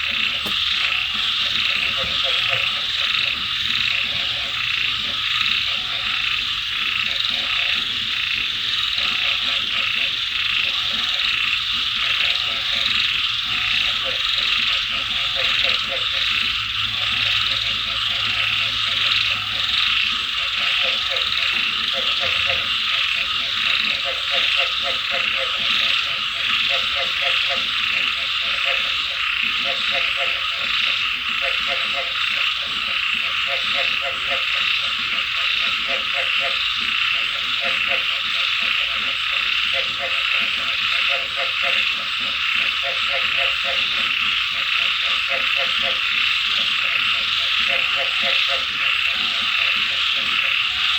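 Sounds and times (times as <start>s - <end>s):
frogs croaking: 0.0s - 50.9s
insects: 0.0s - 50.9s.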